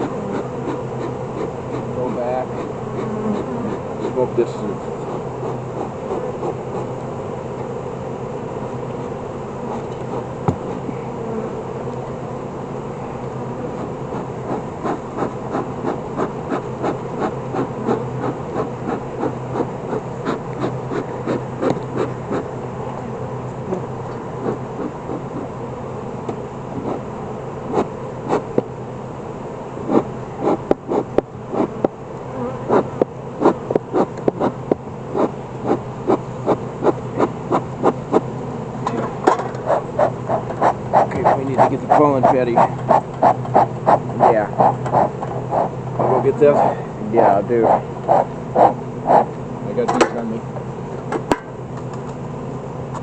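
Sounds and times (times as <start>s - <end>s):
bees buzzing: 0.0s - 52.9s.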